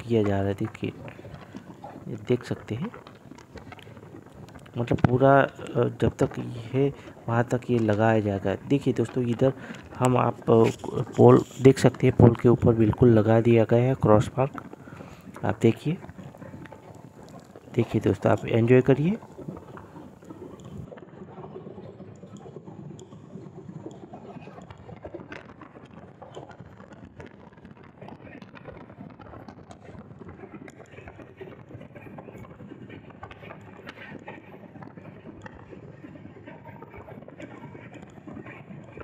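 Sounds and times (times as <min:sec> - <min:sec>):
wheels clacking on rails: 0:00.0 - 0:39.0.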